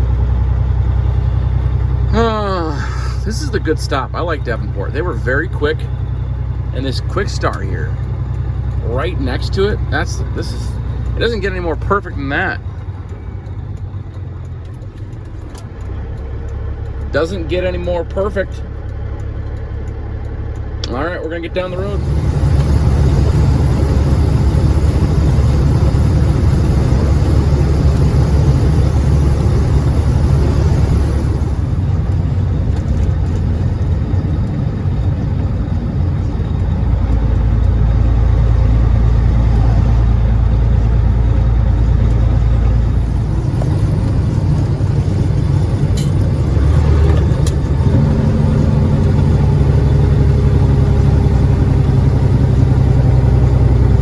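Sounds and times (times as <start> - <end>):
truck diesel engine under load: 0.0 - 54.0.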